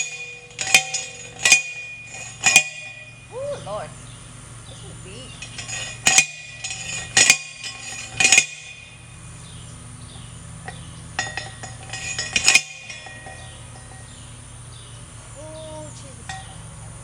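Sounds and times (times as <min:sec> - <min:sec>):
ringing metal clanks: 0:00.0 - 0:03.8, 0:05.2 - 0:14.9, 0:16.2 - 0:16.8
steady low hum: 0:00.0 - 0:17.0.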